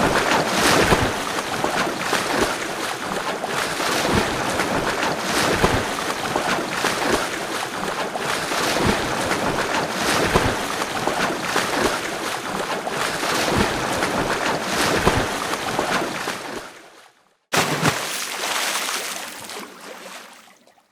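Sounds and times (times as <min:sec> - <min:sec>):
water splashing from swimming: 0:00.0 - 0:16.8, 0:17.5 - 0:20.9.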